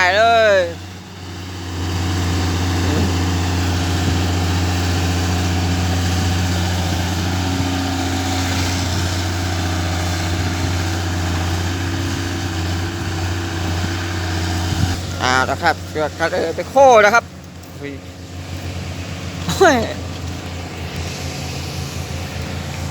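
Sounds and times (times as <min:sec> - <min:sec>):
diesel engine humming: 0:00.0 - 0:22.9.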